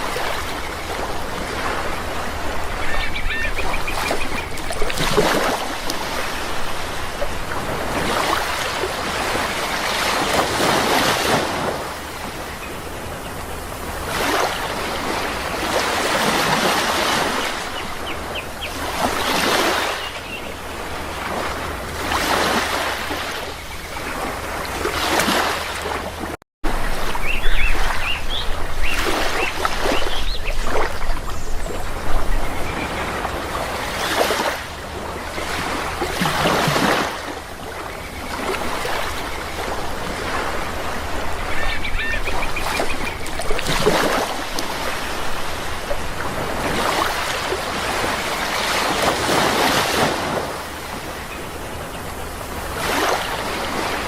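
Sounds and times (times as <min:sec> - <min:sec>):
birds calling: 0:00.0 - 0:21.6, 0:26.8 - 0:50.1
sea waves washing: 0:00.0 - 0:54.0.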